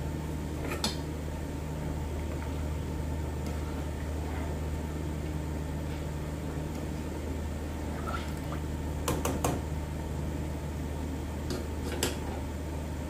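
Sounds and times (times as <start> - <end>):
boiling water: 0.0 - 13.0
steady low hum: 0.0 - 13.0.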